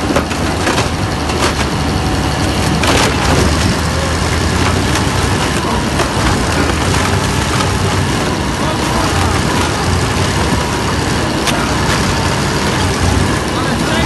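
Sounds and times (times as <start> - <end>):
wood splintering cracks: 0.0 - 13.3
diesel engine droning: 0.0 - 14.0.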